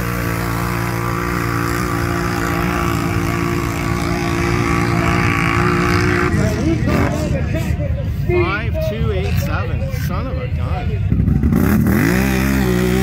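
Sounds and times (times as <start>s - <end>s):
quad bike engine droning: 0.0s - 13.0s.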